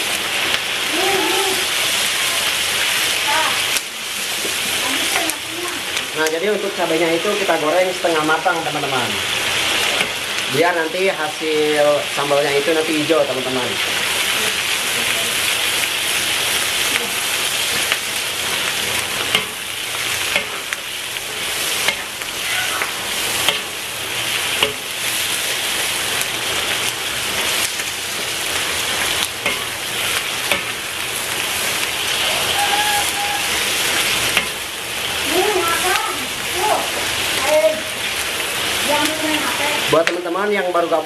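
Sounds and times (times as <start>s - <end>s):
chillies sizzling in hot oil: 0.0s - 41.0s.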